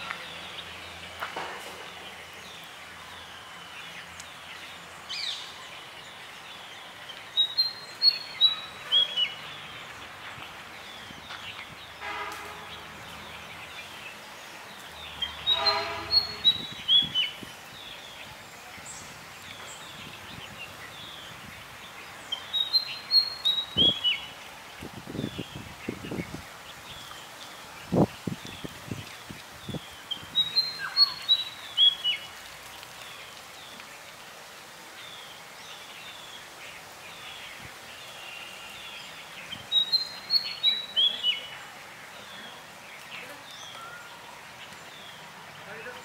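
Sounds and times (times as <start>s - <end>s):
outdoor background noise: 0.0s - 46.0s.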